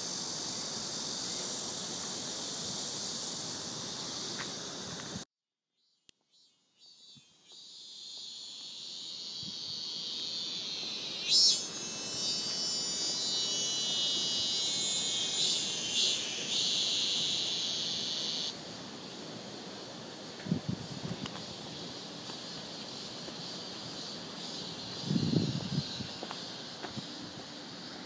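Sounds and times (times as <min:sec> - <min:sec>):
high insect chorus: 0:00.0 - 0:28.0.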